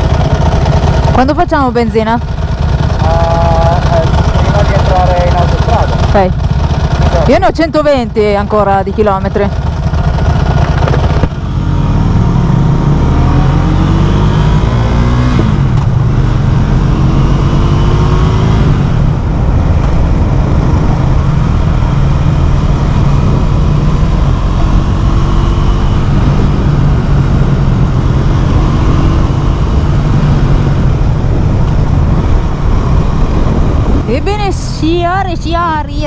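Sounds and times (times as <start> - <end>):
loud motorcycle engine revving: 0.0 - 35.8.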